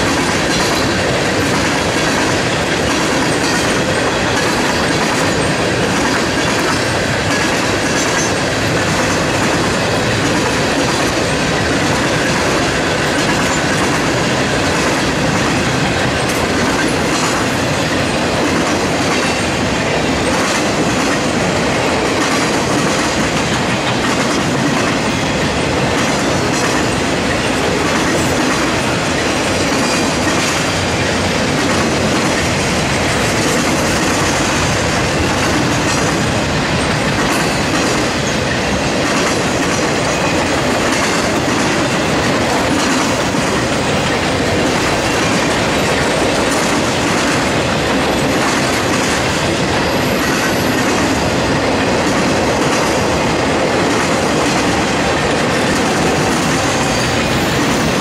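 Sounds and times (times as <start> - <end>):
steel train wheels rushing on rail: 0.0 - 58.0.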